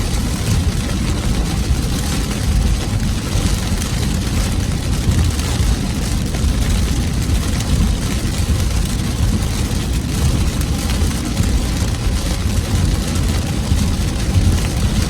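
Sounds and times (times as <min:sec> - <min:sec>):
car and road rumble: 0:00.0 - 0:15.0
heavy rain on car: 0:00.0 - 0:15.0.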